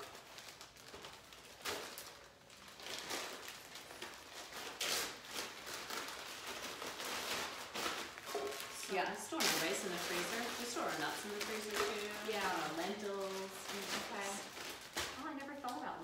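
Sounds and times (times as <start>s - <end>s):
plastic bags rustling and crinkling: 0.0s - 16.0s.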